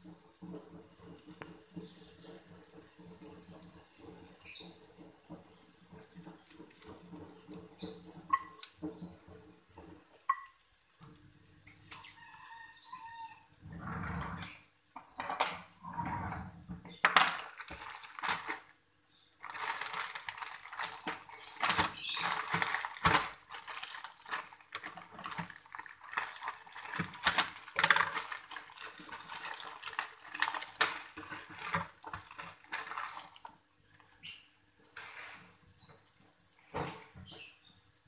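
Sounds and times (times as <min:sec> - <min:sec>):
food sizzling and popping in oil: 0:00.0 - 0:13.6, 0:16.7 - 0:38.0.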